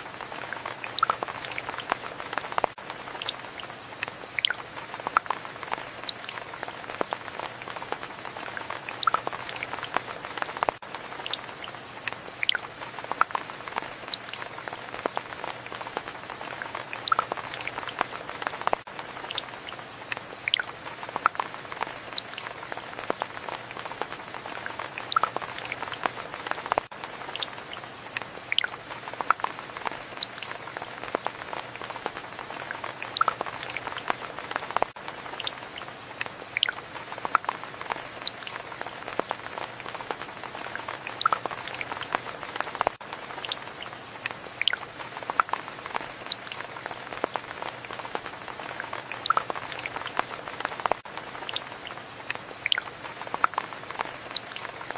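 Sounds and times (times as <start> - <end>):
raindrops plinking on a surface: 0.0 - 54.9
steady rain falling: 0.0 - 54.9.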